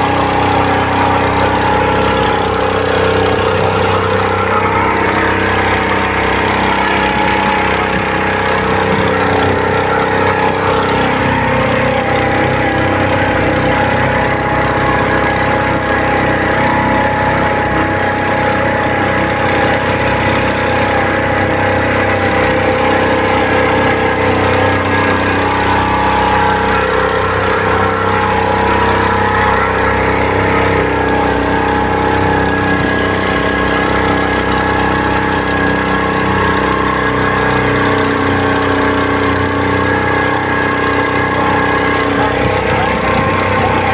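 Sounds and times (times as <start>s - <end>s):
boat motor running: 0.0s - 43.9s.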